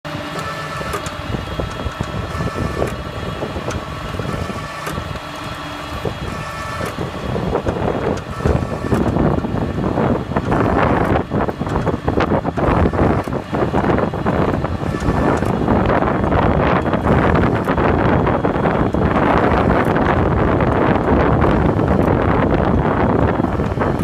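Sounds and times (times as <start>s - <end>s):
steady whine: 0.0s - 24.0s
tractor engine running: 0.0s - 24.0s
wind on microphone: 0.4s - 24.0s.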